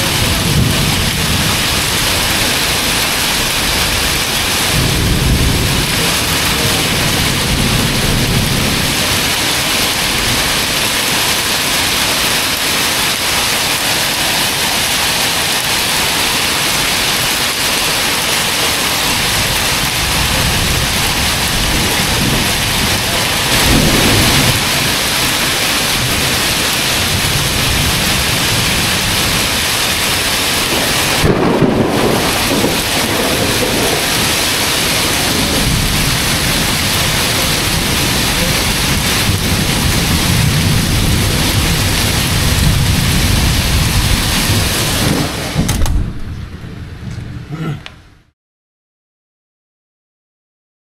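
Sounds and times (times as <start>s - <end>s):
thunder rumbling: 0.0s - 47.6s
heavy rain pouring on pavement: 0.0s - 48.1s.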